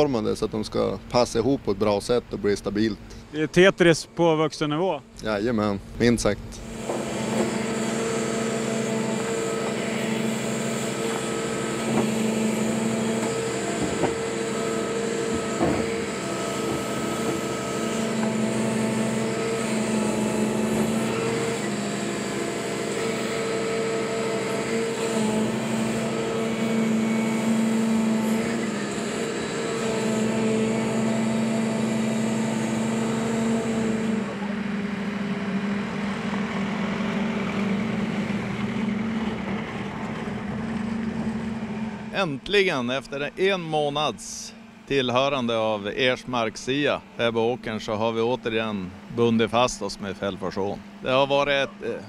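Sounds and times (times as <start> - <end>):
excavator engine and hydraulics: 0.0 - 52.0.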